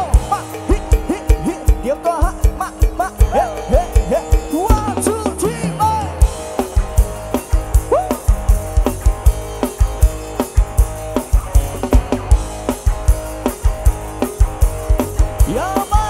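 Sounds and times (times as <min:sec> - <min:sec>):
band music over loudspeakers: 0:00.0 - 0:16.0
fast kick-drum beat: 0:00.0 - 0:16.0
pitch-bending melodic lead line: 0:00.0 - 0:16.0.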